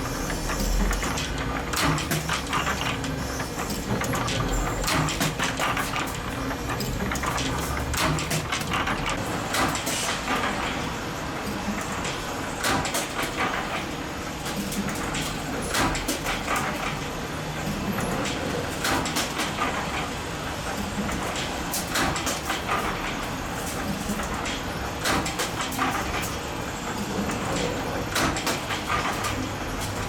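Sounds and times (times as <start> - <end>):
spring-making machine running: 0.0 - 30.0.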